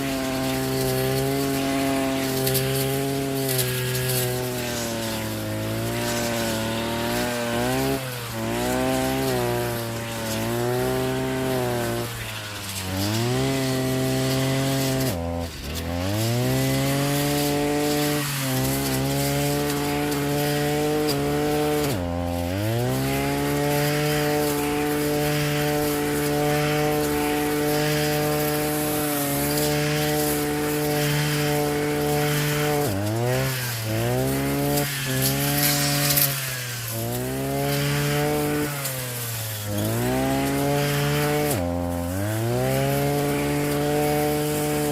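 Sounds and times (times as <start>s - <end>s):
two-stroke cutting tool engine: 0.0s - 44.9s.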